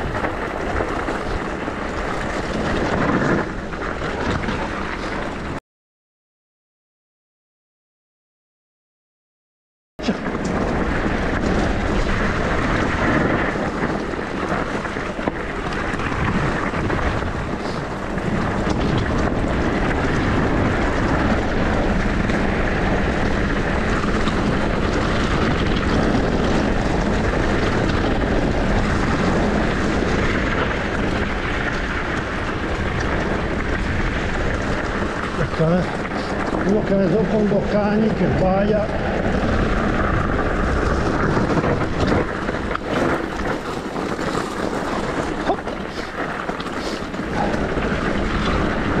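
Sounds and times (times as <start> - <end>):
bike tyre and trail rumble: 0.0 - 5.6, 10.0 - 49.0
wind roaring on microphone: 0.0 - 5.6, 10.0 - 49.0.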